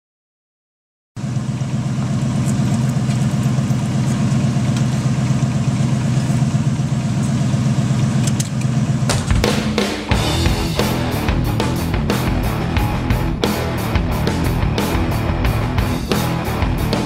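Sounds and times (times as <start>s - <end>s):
vehicle engine idling: 1.2s - 17.0s.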